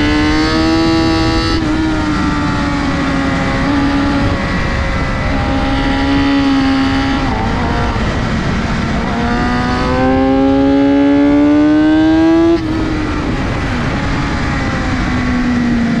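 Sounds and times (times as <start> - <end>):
motorcycle engine at speed: 0.0 - 16.0
wind noise on microphone: 0.0 - 16.0.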